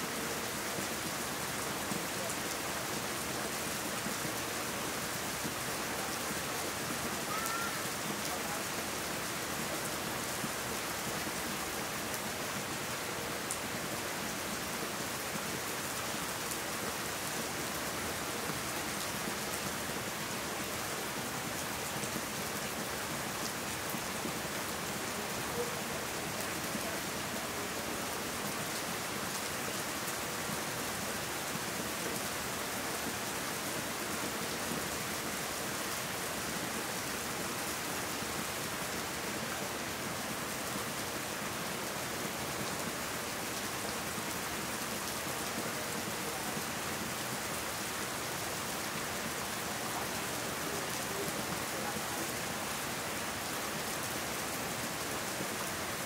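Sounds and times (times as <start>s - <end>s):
rain falling on leaves: 0.0s - 56.0s.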